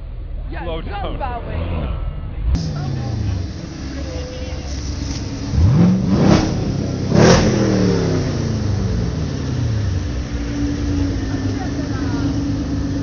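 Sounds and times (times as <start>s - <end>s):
sports car engine revving: 1.2s - 13.0s.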